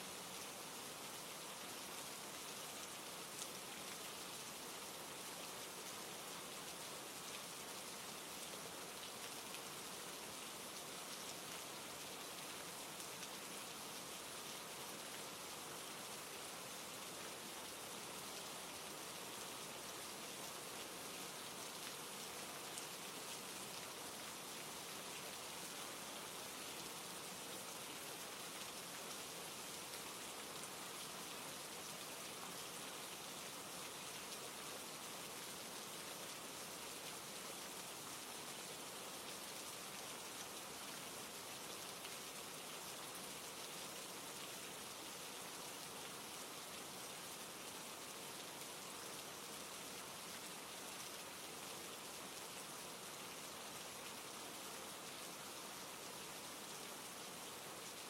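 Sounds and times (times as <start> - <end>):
patter of raindrops: 0.0 - 58.0
steady rain hiss: 0.0 - 58.0.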